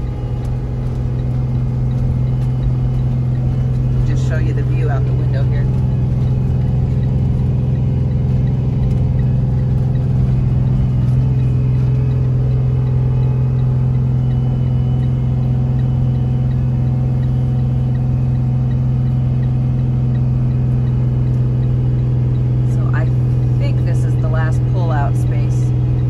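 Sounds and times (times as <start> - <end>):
engine drone: 0.0 - 26.0
hazard flasher ticking: 0.0 - 26.0
road noise: 0.0 - 26.0.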